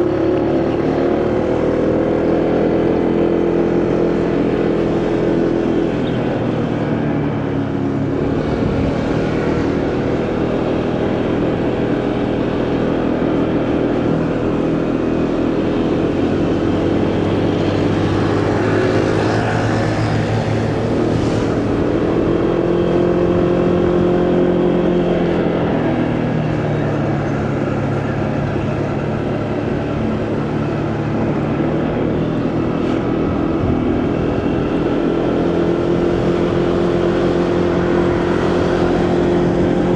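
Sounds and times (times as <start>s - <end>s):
motorcycle engine running: 0.0s - 39.9s
road noise: 0.0s - 39.9s
wind: 0.0s - 39.9s.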